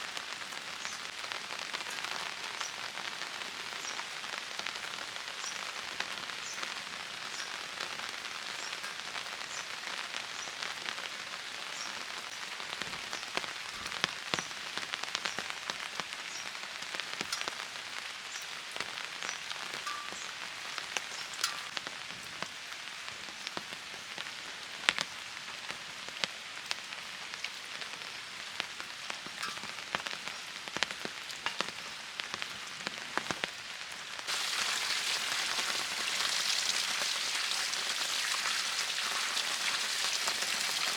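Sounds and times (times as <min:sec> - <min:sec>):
rain falling: 0:00.0 - 0:40.9
raindrops tapping hard surfaces: 0:00.0 - 0:40.9.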